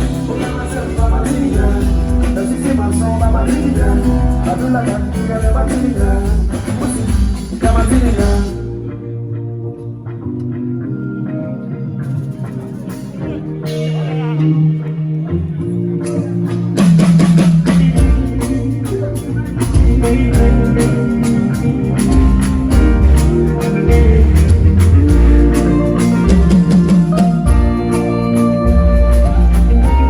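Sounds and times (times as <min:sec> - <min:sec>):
electric guitar playing: 0:00.0 - 0:30.0
live band playing: 0:00.0 - 0:30.0.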